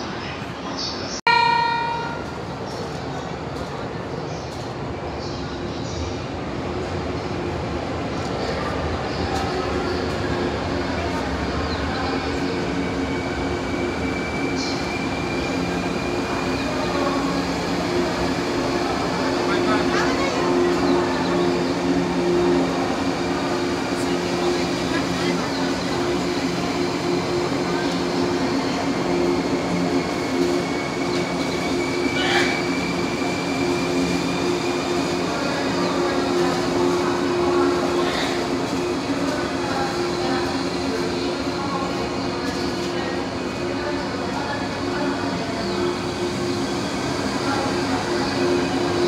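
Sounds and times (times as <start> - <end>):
train wheels rumbling: 1.9 - 49.0.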